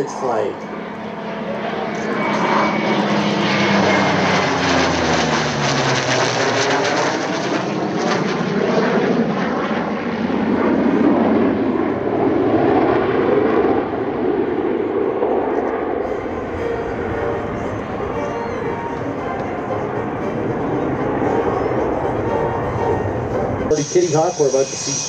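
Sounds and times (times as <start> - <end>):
jet fighter flying past: 0.0 - 25.0
propeller plane flying past: 0.0 - 25.0.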